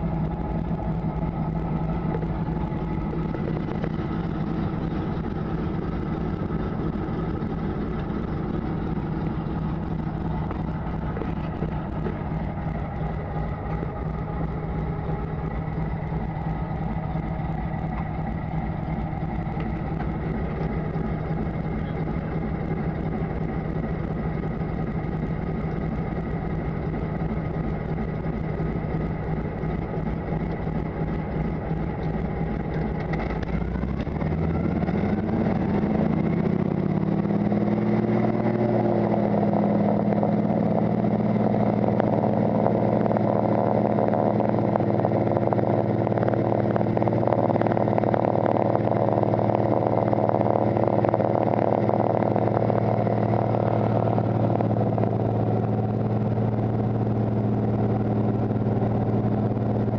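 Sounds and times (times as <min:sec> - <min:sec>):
propeller plane engine: 0:00.0 - 0:59.9.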